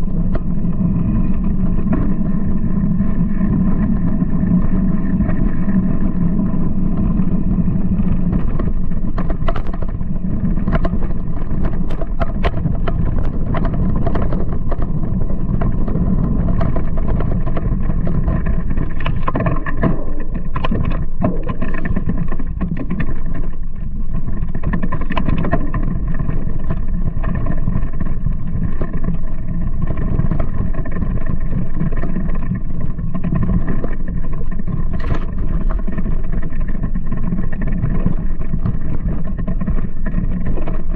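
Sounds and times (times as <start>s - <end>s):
rumble of tyre and wind noise: 0.0s - 40.9s.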